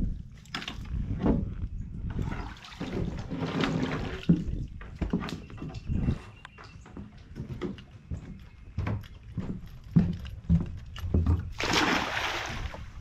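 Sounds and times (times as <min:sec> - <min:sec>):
water lapping and sloshing: 0:00.0 - 0:08.0, 0:09.6 - 0:13.0.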